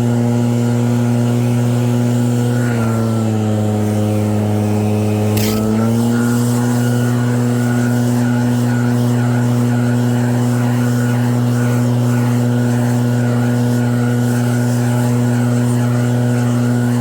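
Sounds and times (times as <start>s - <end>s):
snowblower engine running: 0.0s - 17.0s.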